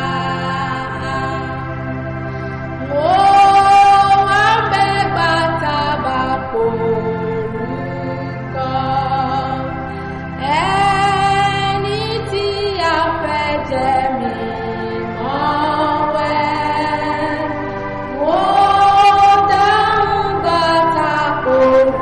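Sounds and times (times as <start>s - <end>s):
gospel singing: 0.0s - 22.0s.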